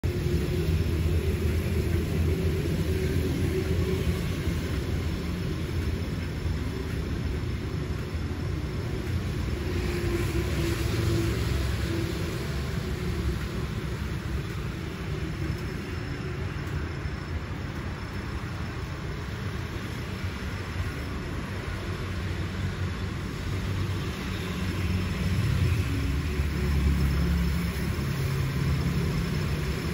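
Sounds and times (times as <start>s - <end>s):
diesel locomotive engine rumble: 0.0s - 29.9s.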